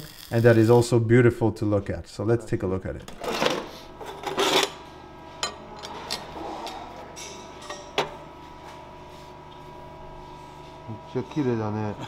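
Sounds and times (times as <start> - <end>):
machine hum with faint tones: 0.0 - 12.0.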